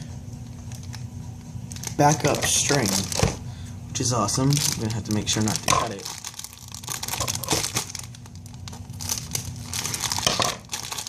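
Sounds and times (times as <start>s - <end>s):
plastic packaging crinkling: 0.4s - 3.4s, 4.0s - 11.0s.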